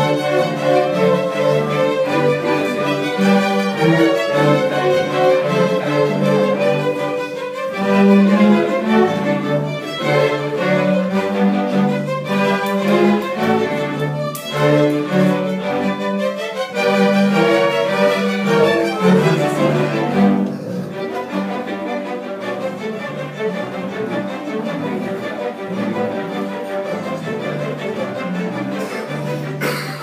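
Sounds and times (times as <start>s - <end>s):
string orchestra playing: 0.0s - 30.0s.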